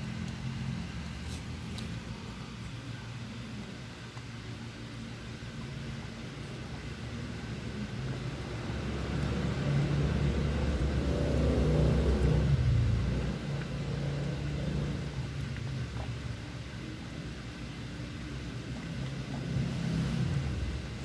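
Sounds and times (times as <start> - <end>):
low engine rumble: 0.0 - 21.0
steady background hum: 0.0 - 21.0.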